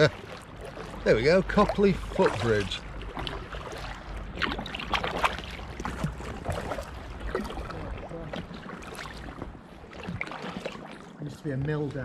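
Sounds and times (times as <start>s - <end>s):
paddle splashing into water: 0.0s - 12.0s.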